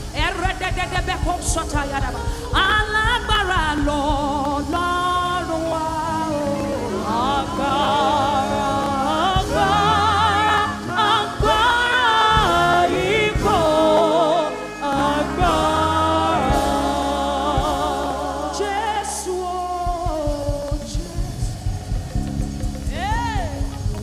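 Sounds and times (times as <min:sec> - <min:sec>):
band bass and keyboard: 0:00.0 - 0:24.0
person singing gospel: 0:00.0 - 0:24.0.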